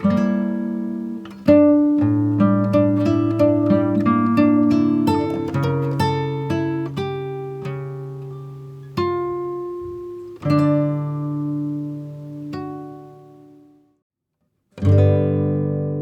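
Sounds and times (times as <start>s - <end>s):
acoustic guitar picking: 0.0s - 13.9s, 14.8s - 16.0s.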